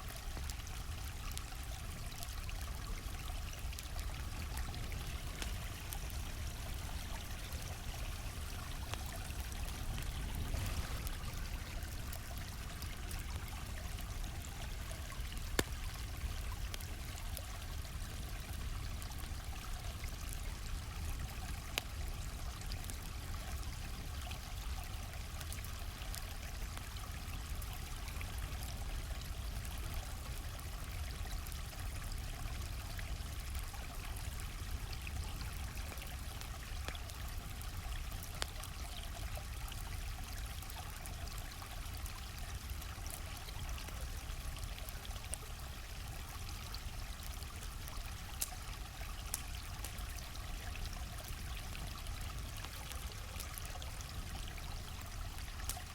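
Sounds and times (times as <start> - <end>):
campfire crackling: 0.0 - 55.9
stream flowing: 0.0 - 55.9.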